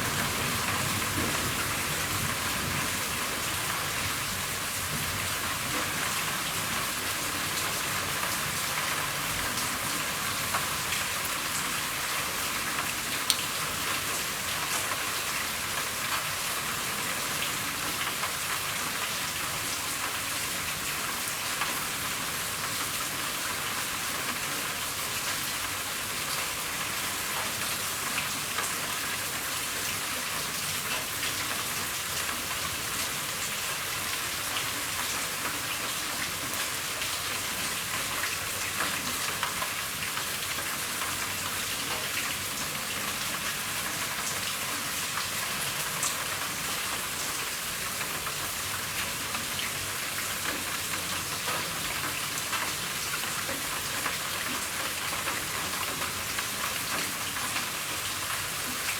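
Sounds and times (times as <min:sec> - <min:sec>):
rain falling on a roof: 0:00.0 - 0:58.9.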